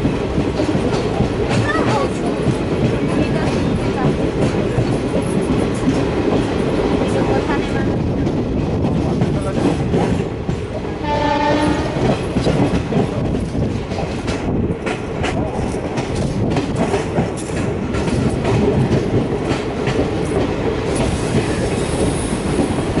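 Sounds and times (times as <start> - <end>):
train coaches rumbling: 0.0 - 23.0.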